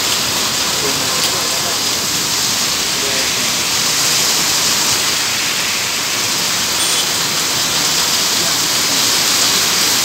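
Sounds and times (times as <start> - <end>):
heavy rain on a wet road: 0.0 - 10.0.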